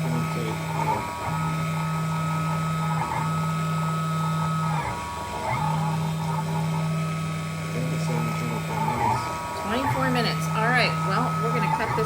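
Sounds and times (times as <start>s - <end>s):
cnc router motor whining: 0.0s - 12.0s.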